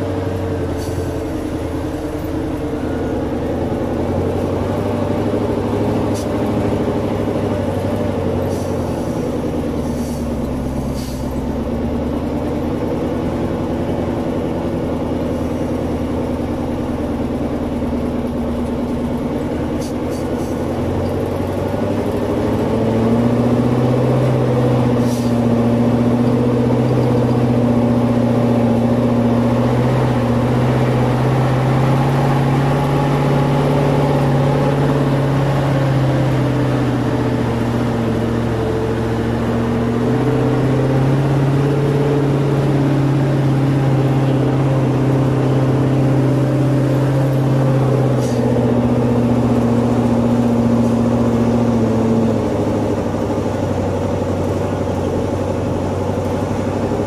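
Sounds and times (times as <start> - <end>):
truck engine running under load: 0.0 - 57.0.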